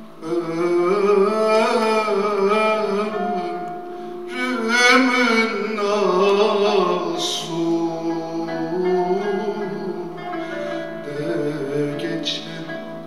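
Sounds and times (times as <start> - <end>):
classical music ensemble playing: 0.0 - 13.0.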